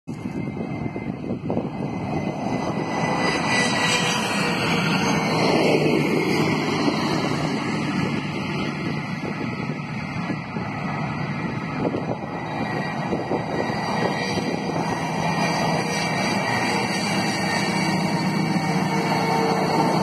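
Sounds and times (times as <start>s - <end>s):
jet engine roar: 0.1s - 20.0s.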